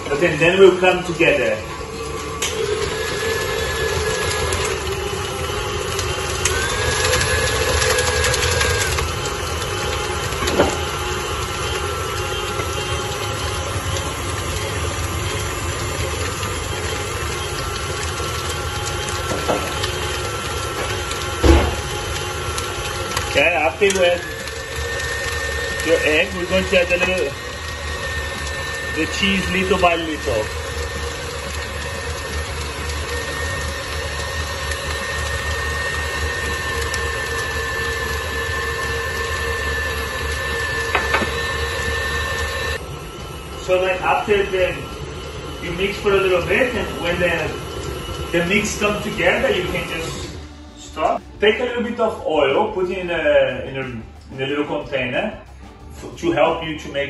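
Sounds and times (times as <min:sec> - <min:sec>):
paddle beating dough: 0:00.0 - 0:50.3
stand mixer motor running: 0:00.0 - 0:57.0.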